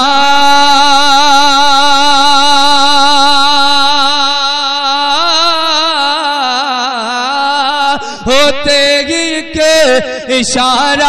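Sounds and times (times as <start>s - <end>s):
man singing long held note: 0.0s - 11.0s.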